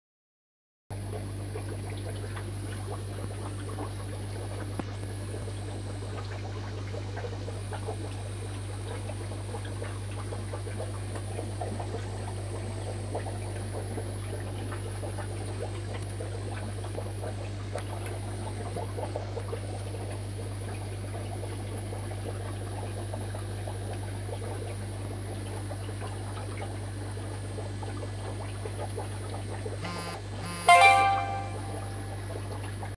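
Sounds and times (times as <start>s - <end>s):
aquarium water bubbling: 0.9s - 32.9s
low pump hum: 0.9s - 32.9s.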